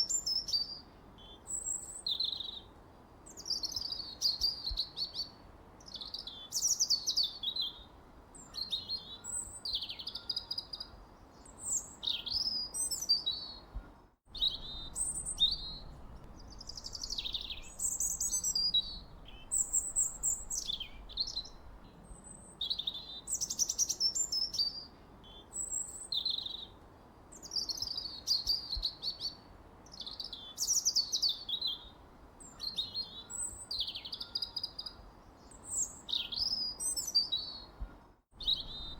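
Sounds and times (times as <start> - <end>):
songbird chirping and trilling: 0.0 - 2.7, 3.3 - 38.9.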